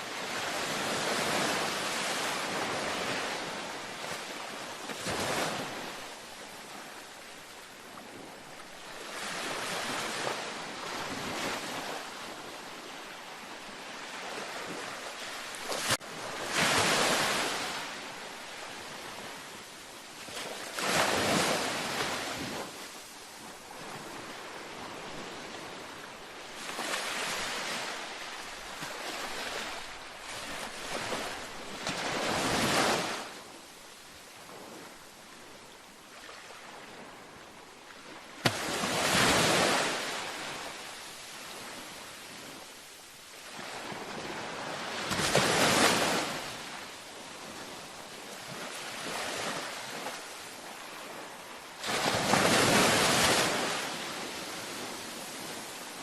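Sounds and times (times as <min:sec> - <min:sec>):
ocean waves breaking on a beach: 0:00.0 - 0:56.0.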